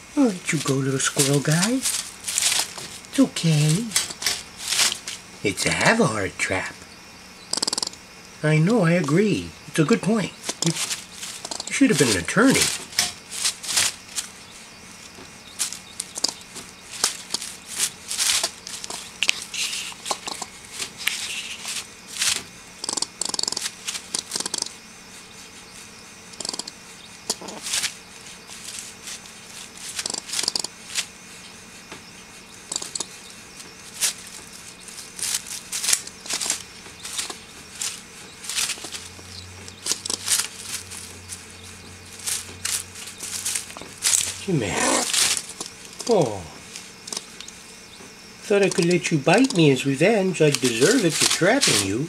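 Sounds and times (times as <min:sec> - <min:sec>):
sharp clicks and rasps: 0:00.0 - 0:24.9, 0:26.2 - 0:52.0
dry leaves rustling: 0:00.0 - 0:52.0
squirrel chattering: 0:00.0 - 0:52.0.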